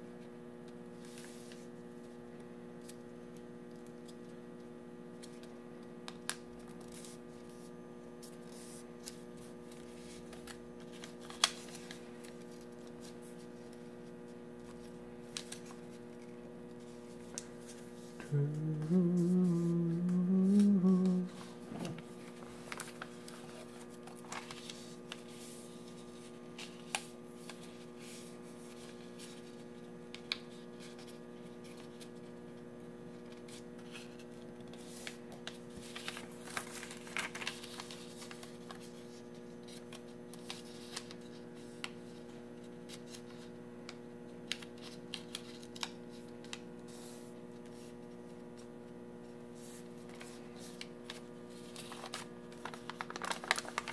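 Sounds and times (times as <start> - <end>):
low electrical hum: 0.0 - 53.9
paper rustling and creasing: 6.1 - 32.4, 33.2 - 43.6, 44.4 - 53.9.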